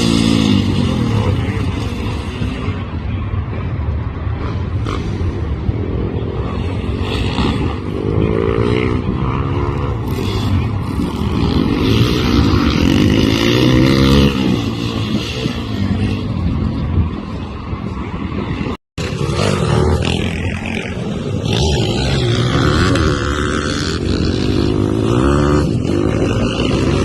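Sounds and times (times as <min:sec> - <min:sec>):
pit bike engine revving: 0:00.0 - 0:27.0.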